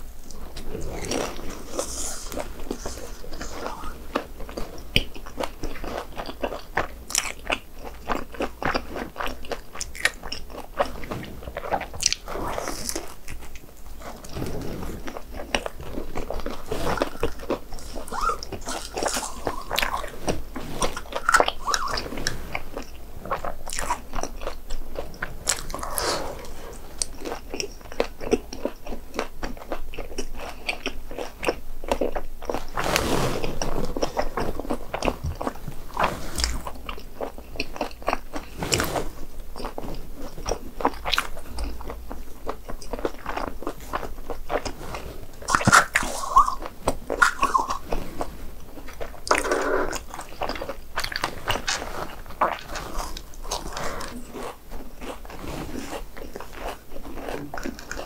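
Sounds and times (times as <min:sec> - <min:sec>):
chewing crispy snacks: 0:00.3 - 0:38.8, 0:39.6 - 0:58.0.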